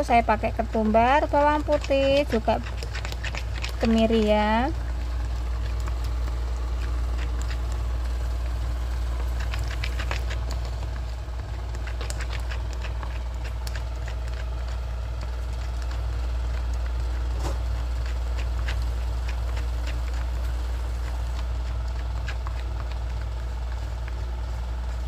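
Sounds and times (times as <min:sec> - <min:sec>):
spatula scraping batter in bowl: 0:00.0 - 0:23.8
steady low hum: 0:00.0 - 0:25.0.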